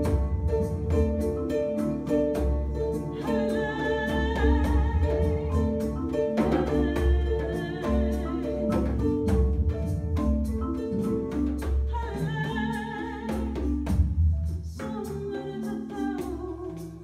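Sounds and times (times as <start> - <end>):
djembe drumming: 0.0 - 17.0
kora: 0.0 - 17.0
marimba: 0.0 - 17.0.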